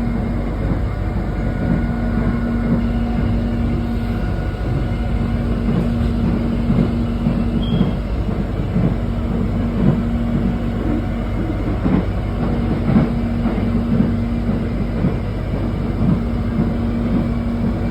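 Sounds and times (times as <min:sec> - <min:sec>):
train rumble inside carriage: 0:00.0 - 0:17.9.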